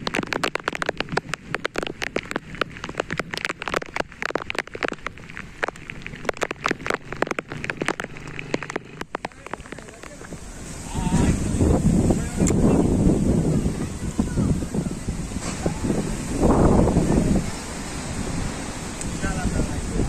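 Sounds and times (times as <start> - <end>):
raindrops pattering: 0.0 - 20.0.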